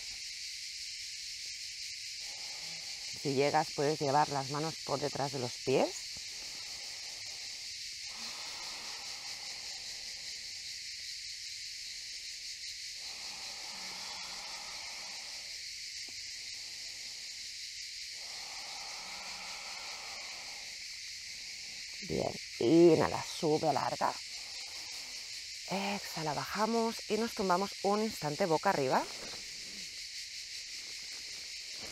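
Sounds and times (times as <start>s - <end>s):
cicadas singing in chorus: 0.0s - 31.9s.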